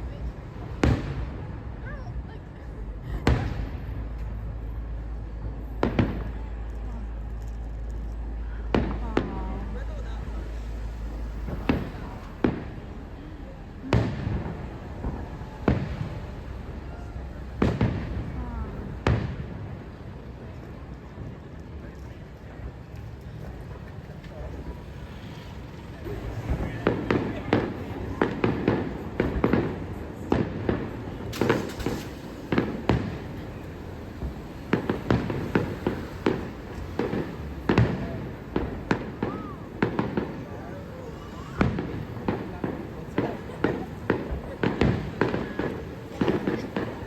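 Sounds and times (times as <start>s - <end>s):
crowd murmur: 0.0s - 47.0s
fireworks bursting with echo: 0.0s - 47.0s.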